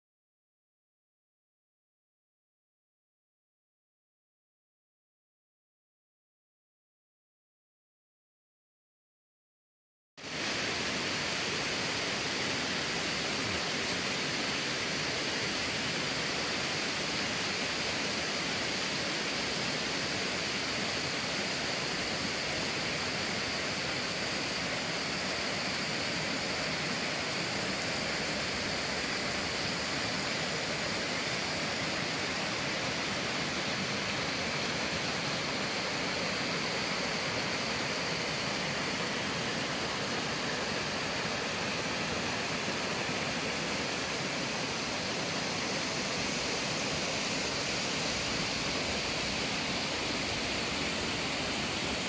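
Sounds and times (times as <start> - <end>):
stream rushing over rocks: 10.2 - 52.0.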